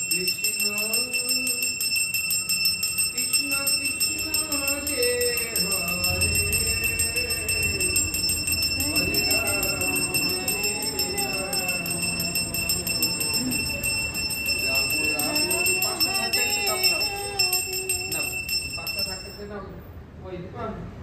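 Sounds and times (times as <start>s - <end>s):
hand bell ringing rapidly: 0.0s - 19.5s
people's voices: 2.5s - 19.4s.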